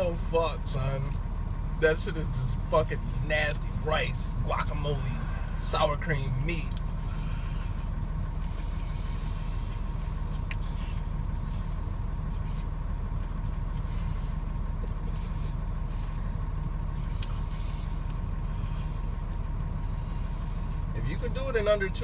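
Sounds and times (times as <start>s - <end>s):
faint steady whine: 0.0s - 22.0s
vehicle engine rumbling: 0.0s - 22.0s.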